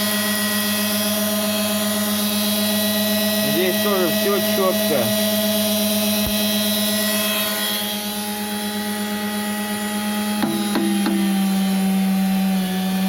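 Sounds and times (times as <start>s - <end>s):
electric motor humming with whine: 0.0s - 13.0s.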